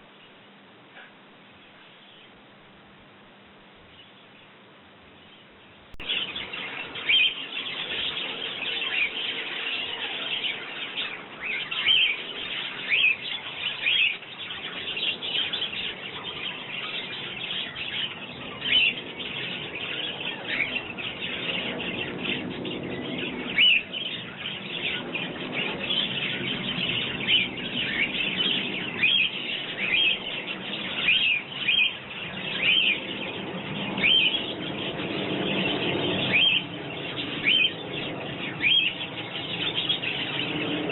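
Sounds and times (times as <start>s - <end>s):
sparrows chirping: 3.8s - 40.9s.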